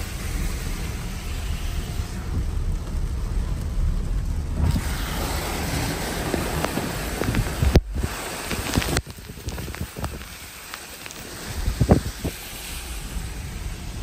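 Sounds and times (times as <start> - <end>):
car driving through water: 0.0 - 14.0
heavy rain: 0.0 - 14.0
wind: 0.0 - 14.0.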